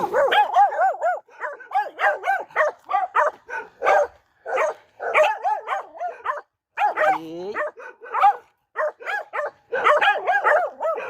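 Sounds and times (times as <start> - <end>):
dog barking in high yaps: 0.0 - 11.0.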